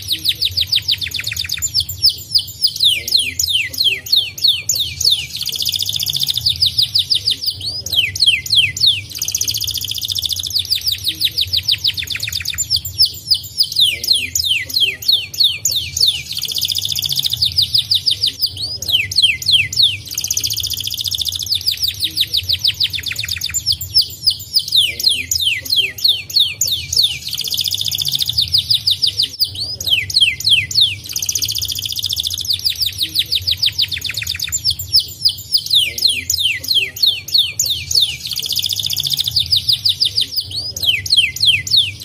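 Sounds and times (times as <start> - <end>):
canary singing: 0.0 - 42.0.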